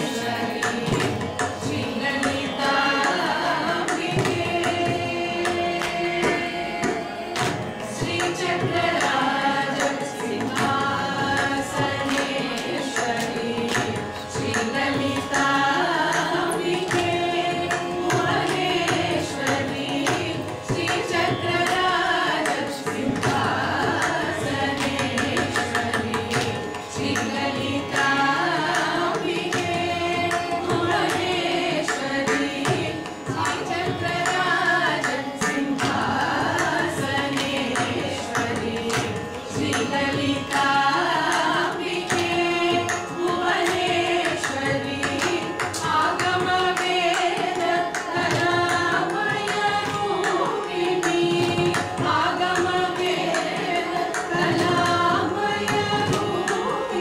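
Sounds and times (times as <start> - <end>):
group of women singing: 0.0 - 57.0
hand drum: 0.0 - 57.0.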